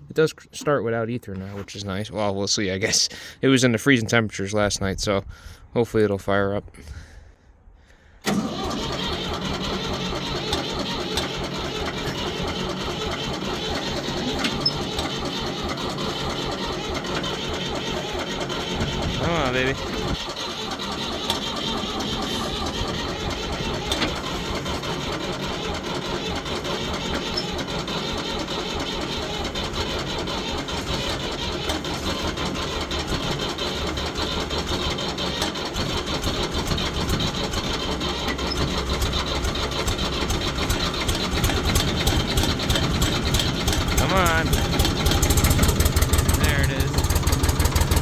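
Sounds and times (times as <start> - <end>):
diesel engine cranking on starter: 8.2 - 48.0.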